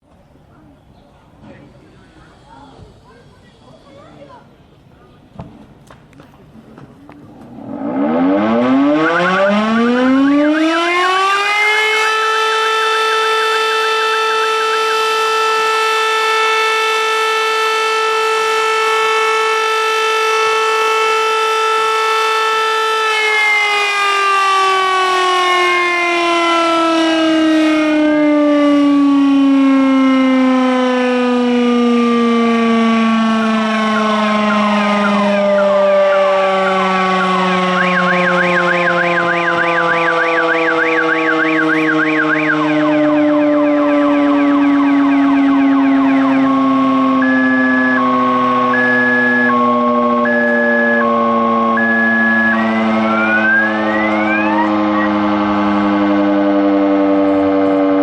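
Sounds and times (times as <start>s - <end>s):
fire station siren: 7.3s - 58.0s
warbling siren tone: 7.3s - 58.0s.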